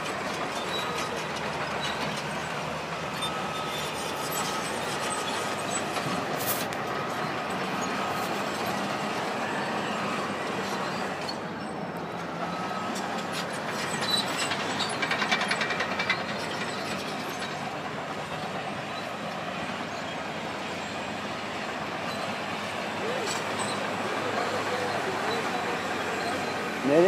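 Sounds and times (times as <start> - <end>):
heavy machinery rumbling: 0.0 - 27.0.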